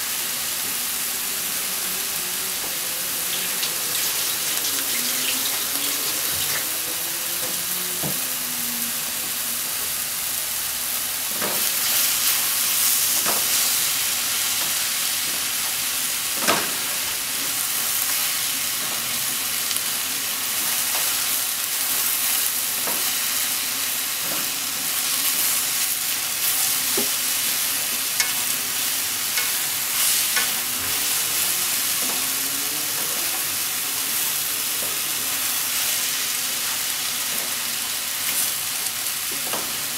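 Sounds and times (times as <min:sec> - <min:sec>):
vegetables sizzling in a frying pan: 0:00.0 - 0:39.9.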